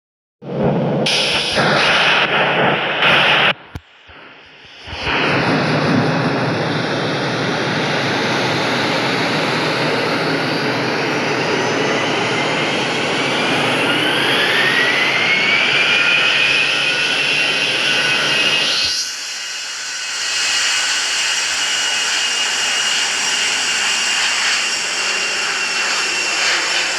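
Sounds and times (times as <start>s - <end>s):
jet engines roaring: 0.5s - 26.9s
rising engine whine: 0.5s - 26.9s.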